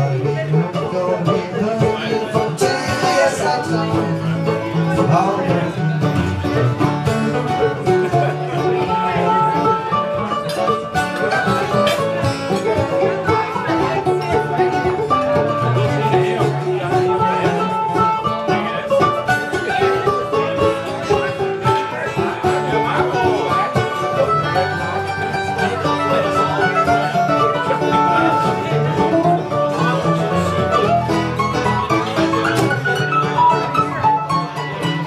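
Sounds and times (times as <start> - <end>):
bluegrass string band instrumental: 0.0 - 35.0.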